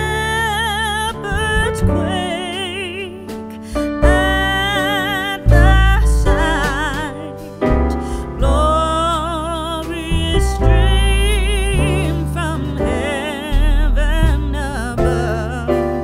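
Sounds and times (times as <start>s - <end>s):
deep sustained bass notes: 0.0s - 16.0s
person singing with wide vibrato: 0.0s - 16.0s
piano: 0.0s - 16.0s.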